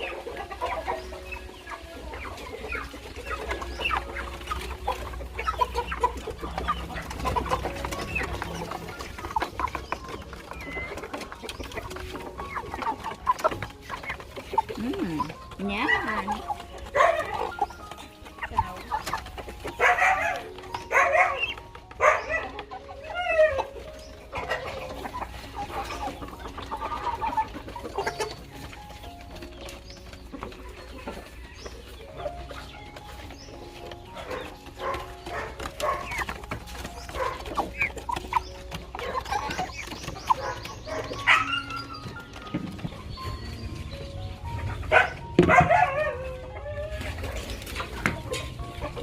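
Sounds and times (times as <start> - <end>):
chickens clucking: 0.0 - 49.0.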